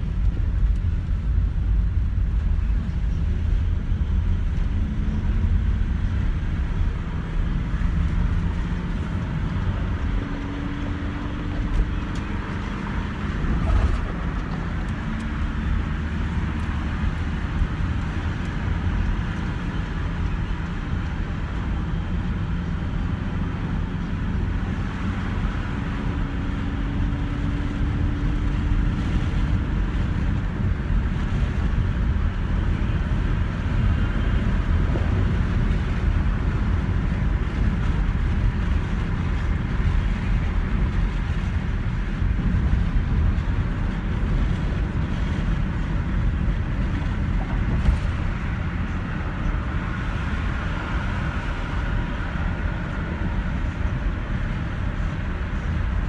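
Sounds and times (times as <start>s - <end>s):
vehicle cabin rumble: 0.0s - 56.0s.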